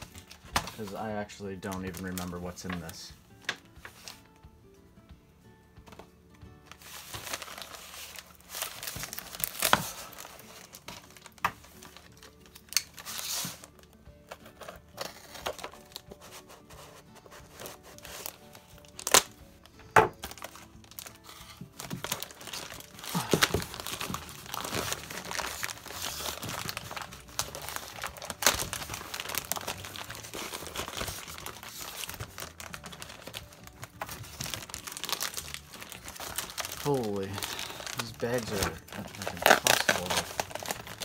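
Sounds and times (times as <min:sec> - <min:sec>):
plastic bag crinkling and tearing: 0:00.0 - 0:04.2, 0:06.7 - 0:41.0.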